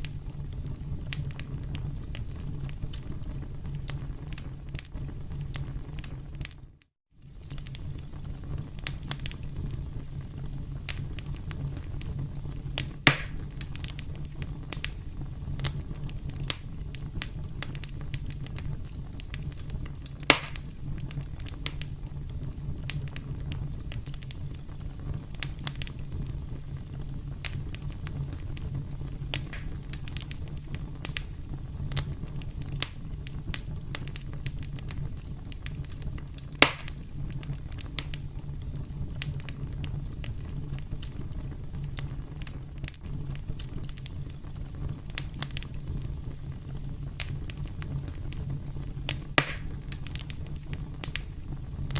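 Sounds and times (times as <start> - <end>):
loud fire pops: 0.0 - 51.9
wood fire crackling: 0.0 - 51.9.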